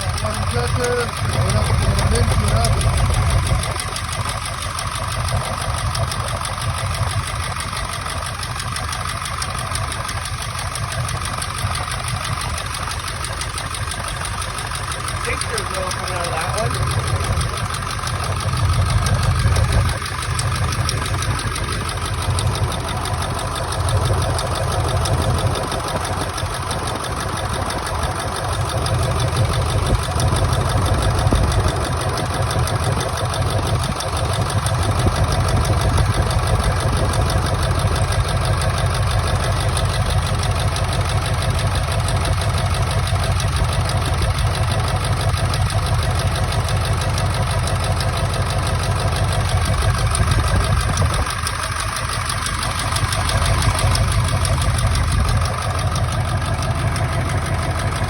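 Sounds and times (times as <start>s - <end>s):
diesel engine idling rough: 0.0s - 58.0s.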